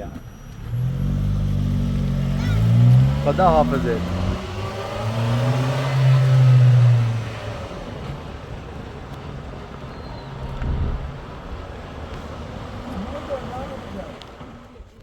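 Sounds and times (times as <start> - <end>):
vehicle engine driving off: 0.0 - 15.0.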